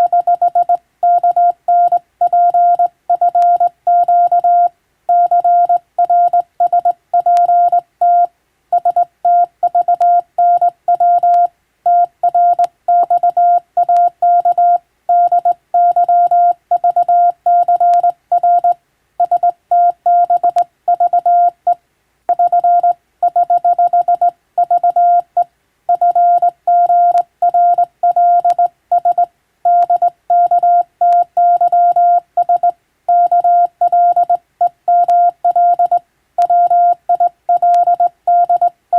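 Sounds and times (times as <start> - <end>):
morse code beeps: 0.0 - 21.7, 22.3 - 38.8.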